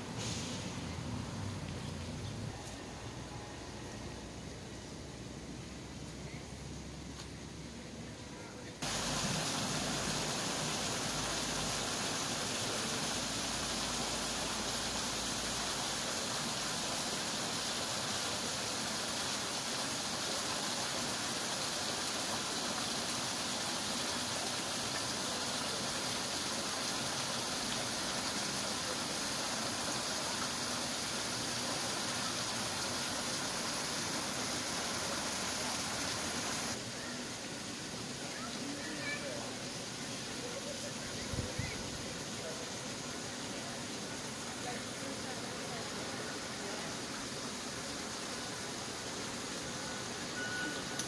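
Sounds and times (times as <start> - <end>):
stream water rushing over rocks: 8.8 - 51.0.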